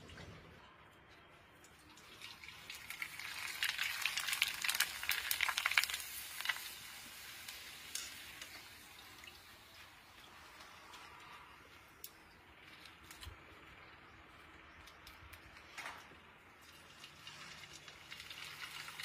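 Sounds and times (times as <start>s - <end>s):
crackling sizzle of deep-frying: 1.6s - 19.0s.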